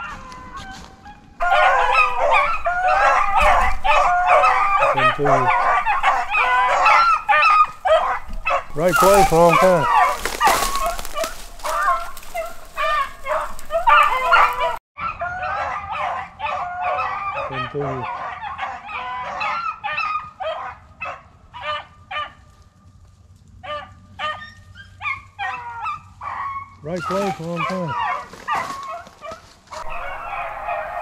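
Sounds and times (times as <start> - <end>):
dogs baying: 0.0 - 22.4, 23.6 - 31.0.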